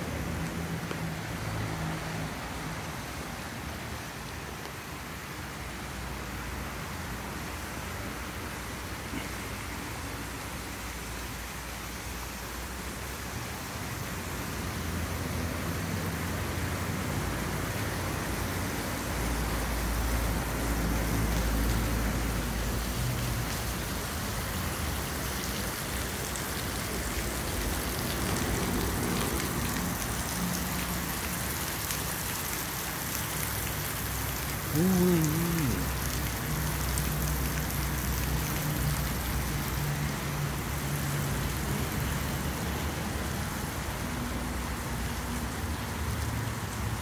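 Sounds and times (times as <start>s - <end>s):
water rushing: 0.0s - 47.0s.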